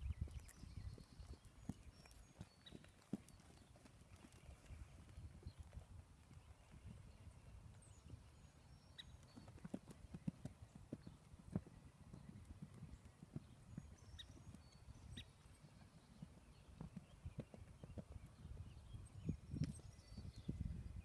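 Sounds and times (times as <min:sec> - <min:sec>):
horse hoofbeats on sand: 0:00.0 - 0:06.8, 0:07.8 - 0:20.2.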